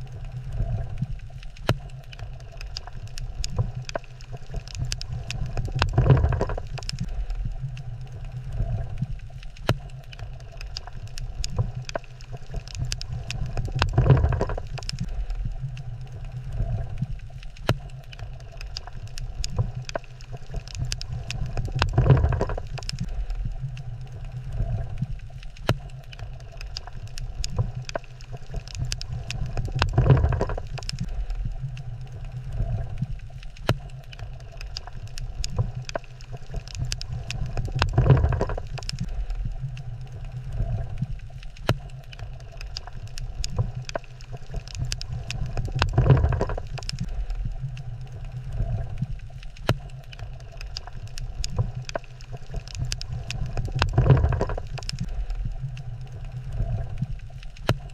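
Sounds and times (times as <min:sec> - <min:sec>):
low underwater rumble: 0:00.0 - 0:57.9
sharp crackling clicks: 0:00.0 - 0:57.9.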